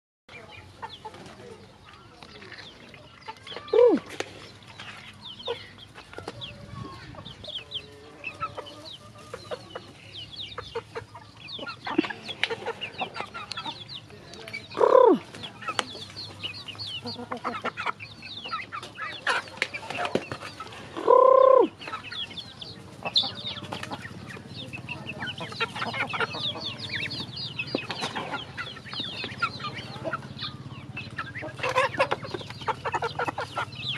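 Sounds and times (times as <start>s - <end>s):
chickens peeping and clucking: 0.3s - 33.9s.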